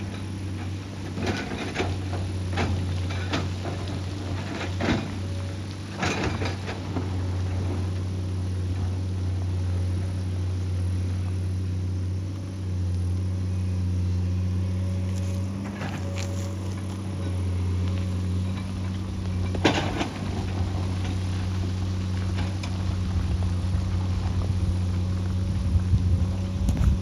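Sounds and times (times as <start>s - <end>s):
excavator diesel engine droning: 0.0s - 27.0s.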